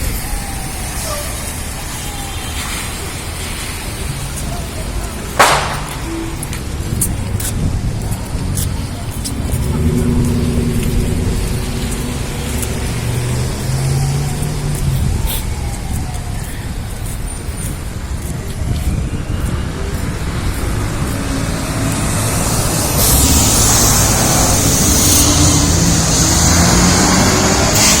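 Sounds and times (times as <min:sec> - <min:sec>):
tyres hissing on wet road: 0:00.0 - 0:18.2, 0:19.0 - 0:28.0
car engines running: 0:02.8 - 0:28.0.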